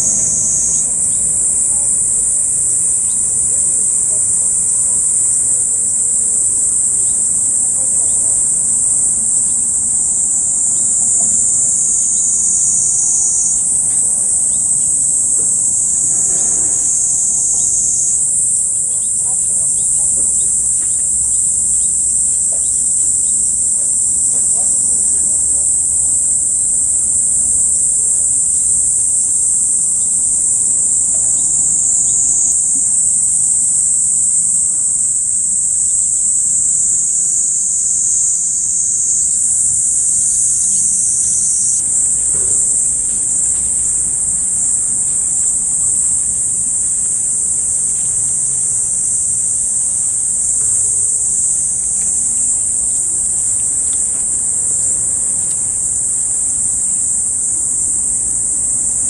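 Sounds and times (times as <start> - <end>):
insects shrilling: 0.0 - 59.0.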